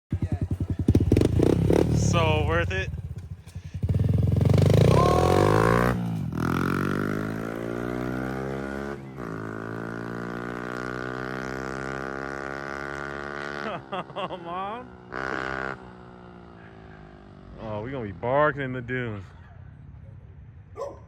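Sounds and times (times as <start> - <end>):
motorbike engine revving: 0.1 - 17.7.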